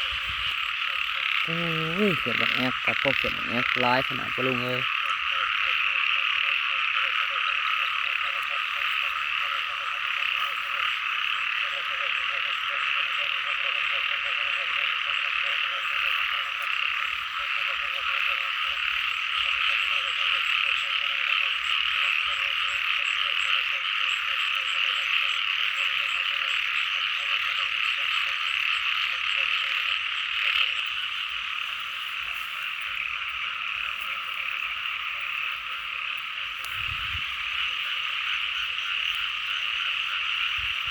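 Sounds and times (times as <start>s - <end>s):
frogs trilling: 0.0s - 40.9s
pulsing frog croak: 0.0s - 40.9s.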